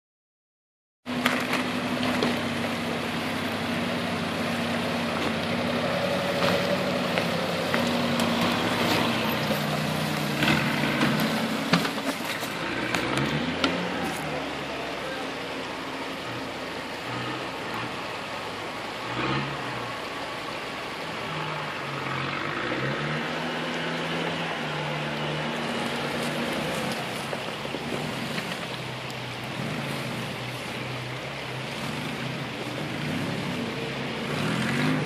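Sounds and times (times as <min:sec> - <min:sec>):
suv engine at low revs: 0:01.1 - 0:35.0.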